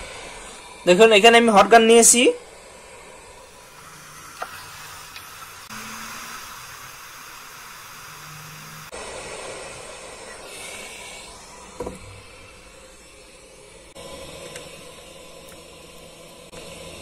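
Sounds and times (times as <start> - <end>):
hot air gun hissing: 0.0 - 17.0.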